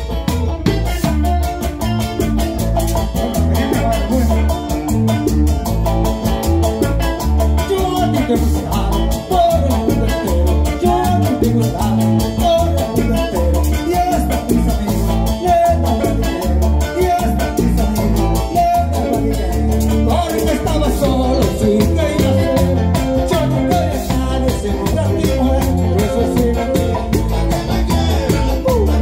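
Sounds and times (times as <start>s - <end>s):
congas: 0.0s - 29.0s
salsa band playing: 0.0s - 29.0s
person singing: 3.0s - 5.8s, 6.8s - 29.0s.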